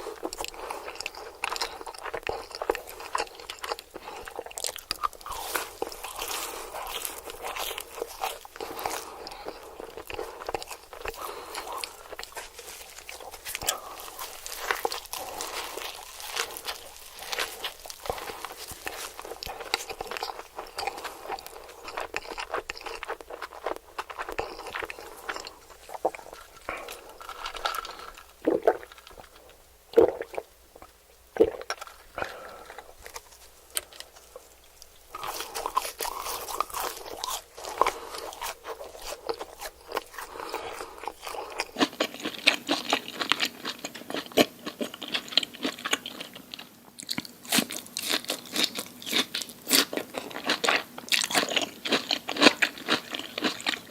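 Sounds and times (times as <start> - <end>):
crunchy chewing: 0.0 - 53.9.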